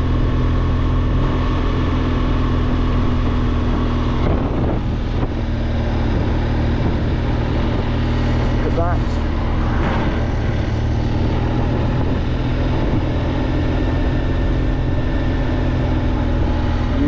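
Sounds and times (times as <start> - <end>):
motorcycle engine running: 0.0 - 17.0
rush of wind noise: 0.0 - 17.0.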